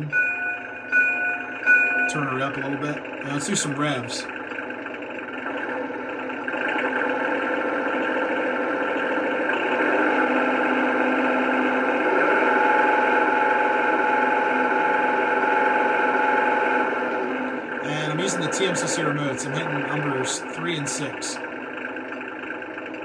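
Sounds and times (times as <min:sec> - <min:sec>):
high whine: 0:00.0 - 0:23.0
simulated engine sound from speaker: 0:00.0 - 0:23.0.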